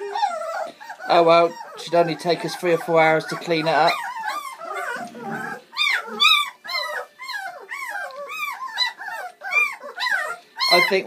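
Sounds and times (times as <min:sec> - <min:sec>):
puppies whimpering and squealing: 0:00.0 - 0:11.0.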